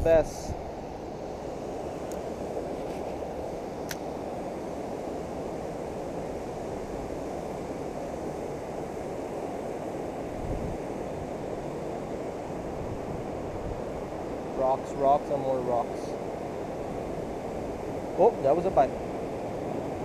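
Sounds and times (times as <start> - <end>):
river water rushing over a dam: 0.0 - 20.0.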